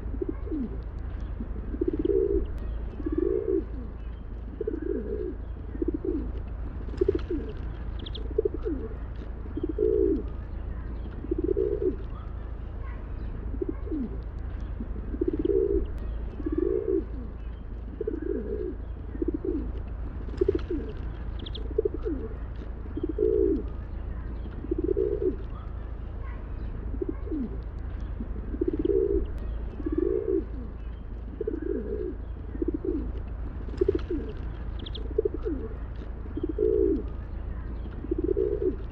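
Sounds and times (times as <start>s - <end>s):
pigeons cooing: 0.0s - 38.9s
steady low hum: 0.0s - 38.9s.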